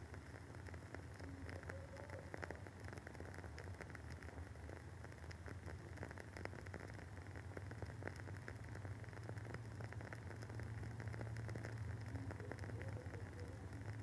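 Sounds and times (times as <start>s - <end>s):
candle wick crackling: 0.0s - 14.0s.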